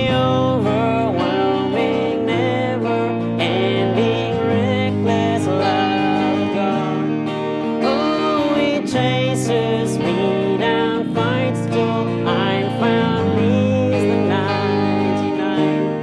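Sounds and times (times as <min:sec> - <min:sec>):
electric guitar: 0:00.0 - 0:16.0
man singing: 0:00.0 - 0:16.0
strummed acoustic guitar: 0:00.0 - 0:16.0.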